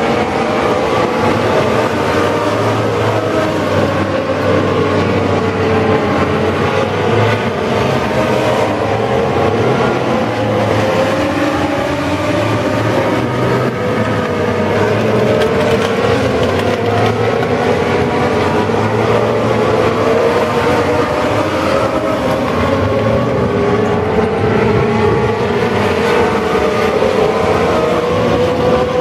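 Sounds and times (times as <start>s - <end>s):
race car engines howling: 0.0s - 29.0s.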